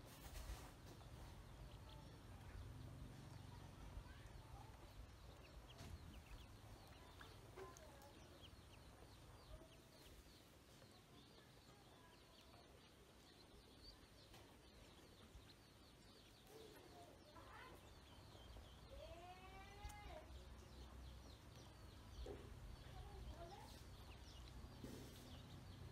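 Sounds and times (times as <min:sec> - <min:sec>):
ducklings peeping: 0:00.0 - 0:25.9.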